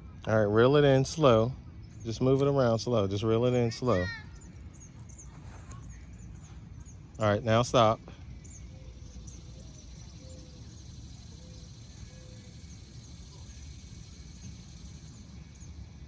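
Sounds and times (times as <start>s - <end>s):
birds chirping: 0.3s - 16.0s.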